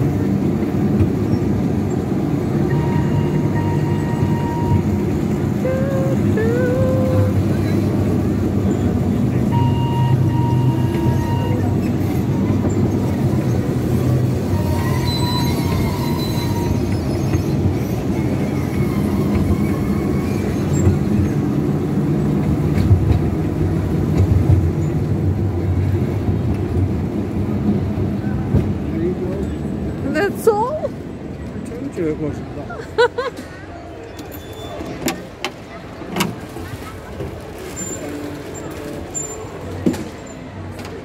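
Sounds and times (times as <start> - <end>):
ride-on train rumbling: 0.0 - 41.0.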